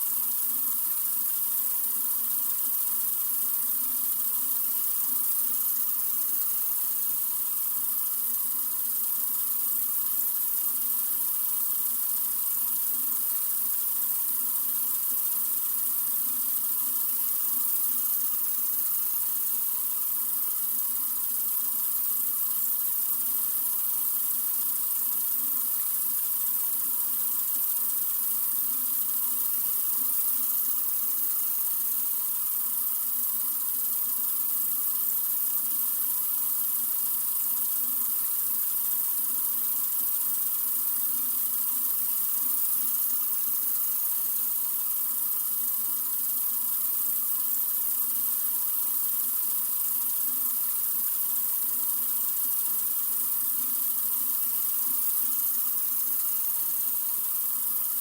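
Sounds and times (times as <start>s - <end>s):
sink faucet running: 0.1s - 58.0s.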